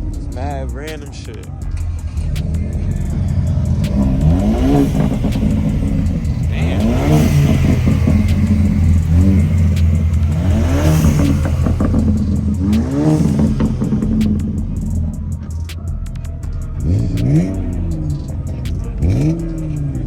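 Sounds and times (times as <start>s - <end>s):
car engine revving in blips: 0.0s - 20.0s.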